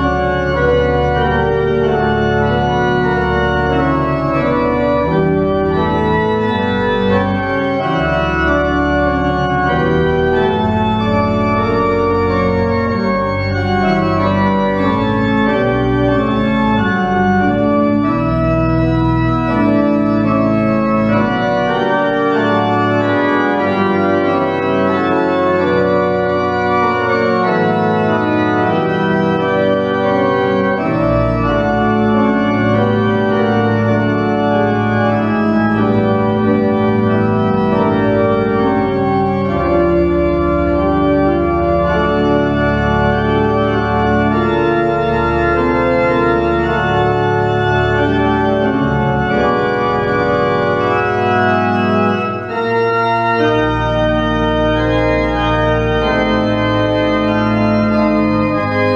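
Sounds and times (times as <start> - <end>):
deep organ pedal bass notes: 0.0 - 58.9
pipe organ chords: 0.0 - 58.9.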